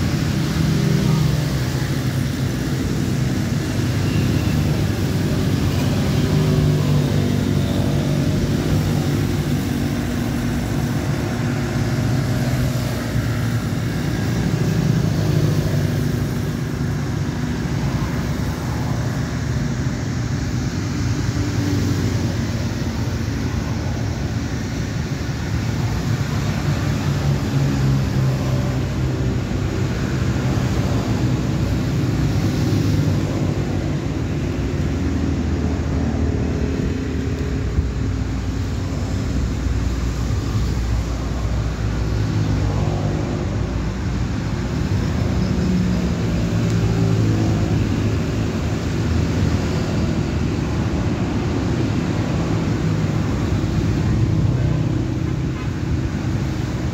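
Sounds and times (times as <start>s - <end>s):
road traffic rumble: 0.0s - 56.9s.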